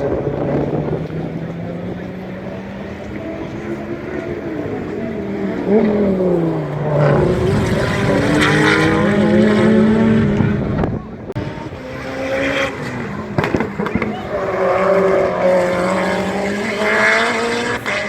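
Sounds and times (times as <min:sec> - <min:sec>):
race car engine falling in pitch: 0:00.0 - 0:17.9
race car running past: 0:00.0 - 0:18.0.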